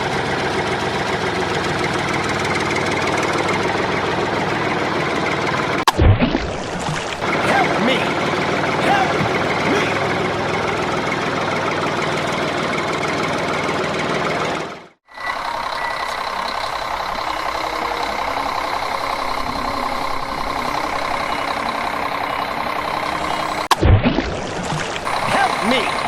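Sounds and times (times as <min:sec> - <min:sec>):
engine running: 0:00.0 - 0:05.9, 0:06.5 - 0:26.0.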